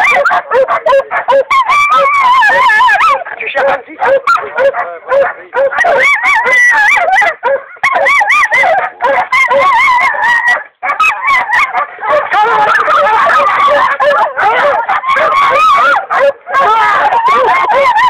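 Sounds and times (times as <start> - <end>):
hounds baying and yelping: 0.0 - 18.0.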